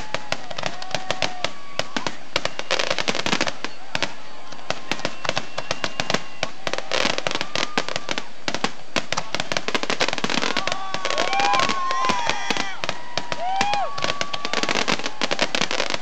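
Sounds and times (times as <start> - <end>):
fireworks crackling and banging: 0.0 - 16.0
fireworks whistles: 0.0 - 16.0.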